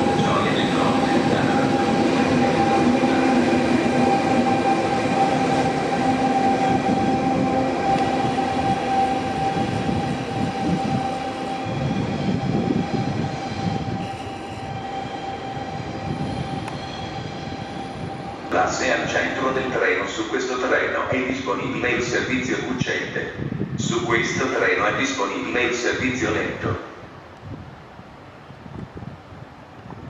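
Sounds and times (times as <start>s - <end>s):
train rumble: 0.0s - 25.1s.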